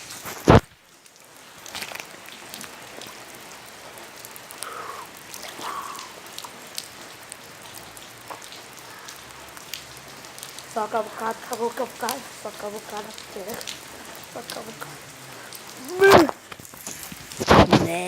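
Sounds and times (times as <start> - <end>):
raindrops tapping close: 0.0 - 18.0
steady rain falling: 0.0 - 18.0.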